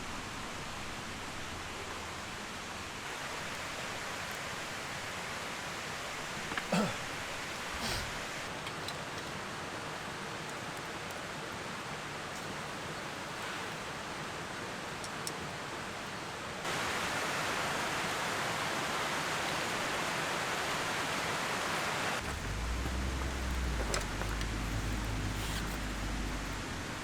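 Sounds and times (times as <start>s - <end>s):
outdoor hiss: 0.0s - 27.0s.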